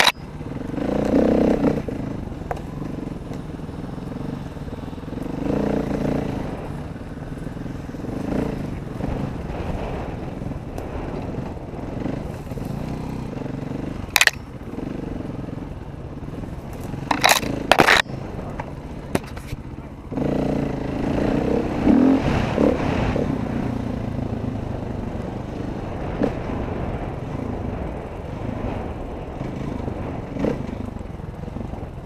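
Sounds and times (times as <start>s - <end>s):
dirt bike engine running: 0.0s - 32.0s.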